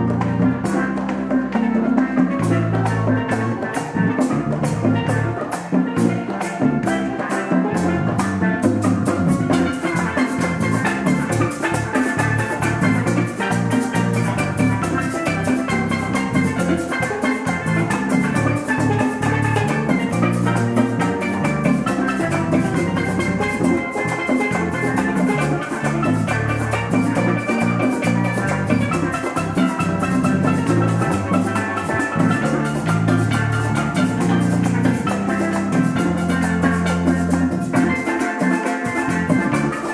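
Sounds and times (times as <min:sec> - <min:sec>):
band music: 0:00.0 - 0:39.9
drum kit fast beat: 0:05.9 - 0:39.9.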